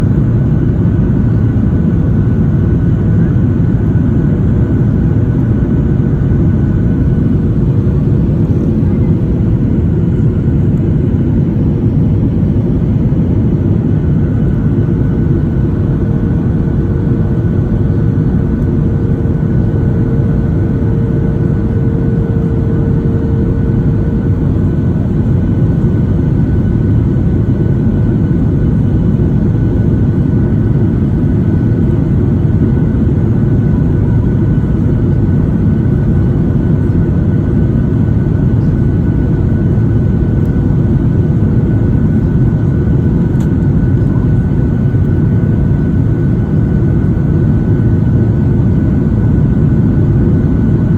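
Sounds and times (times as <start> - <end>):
jet airliner cabin roar: 0.0 - 50.9
faint steady hum: 4.1 - 50.9.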